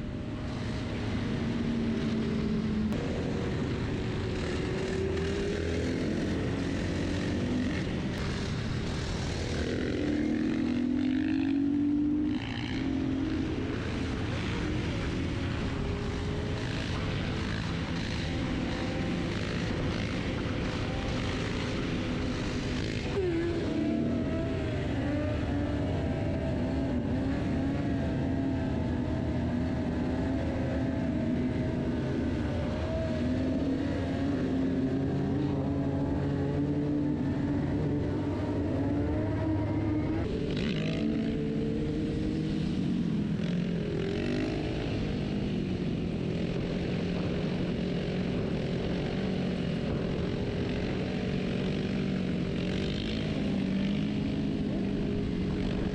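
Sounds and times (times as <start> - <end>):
motorcycle engine running: 0.0 - 55.9
steady rush of noise: 0.0 - 55.9.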